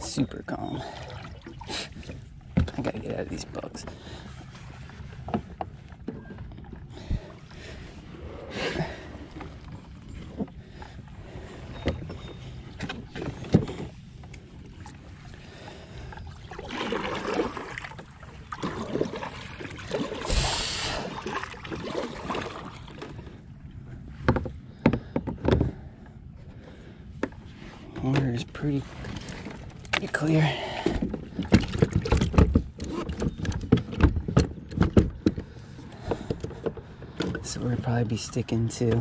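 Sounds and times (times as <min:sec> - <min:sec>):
water swishing against kayak hull: 0:00.5 - 0:39.0.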